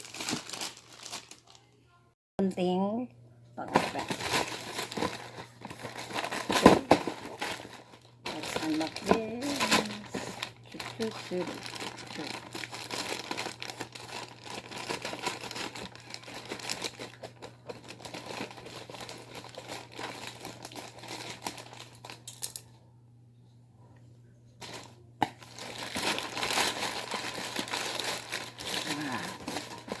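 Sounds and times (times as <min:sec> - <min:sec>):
packaging crinkling and tearing: 0:00.0 - 0:01.8, 0:03.7 - 0:22.4, 0:24.6 - 0:30.0.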